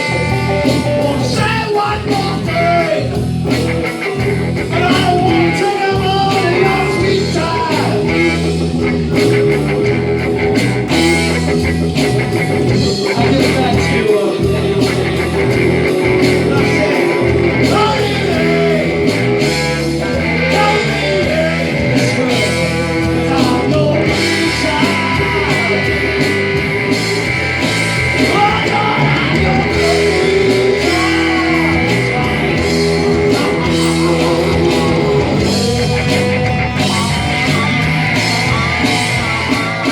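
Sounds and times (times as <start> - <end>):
person singing: 0.0 - 3.2, 4.7 - 9.2, 12.6 - 27.1, 28.2 - 39.9
bass guitar: 0.0 - 39.9
electric guitar: 0.0 - 39.9
steady drum beat: 0.0 - 39.9.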